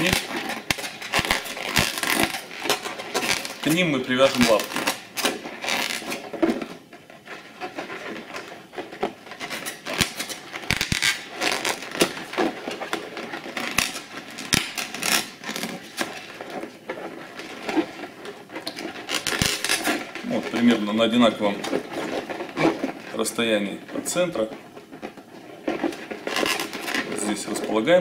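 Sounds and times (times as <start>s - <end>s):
balloons squeaking and rubbing: 0.0s - 28.0s.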